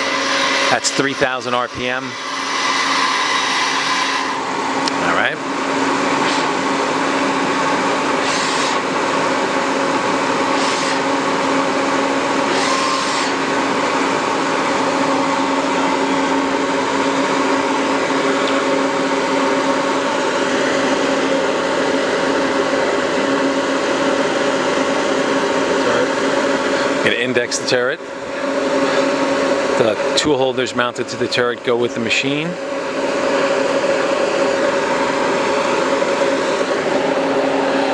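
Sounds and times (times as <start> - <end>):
lathe machine whine: 0.0 - 37.9.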